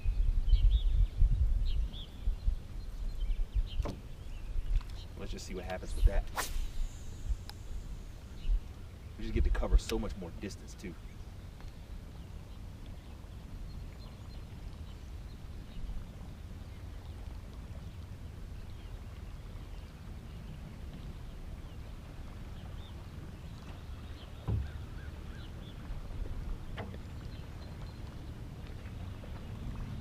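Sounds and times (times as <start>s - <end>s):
water and wind rumble: 0.0s - 30.0s.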